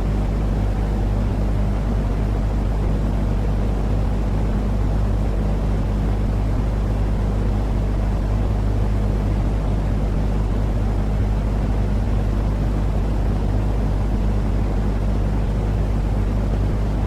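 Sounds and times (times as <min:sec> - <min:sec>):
constant low hum: 0:00.0 - 0:17.0
low rumbling hiss: 0:00.0 - 0:17.0.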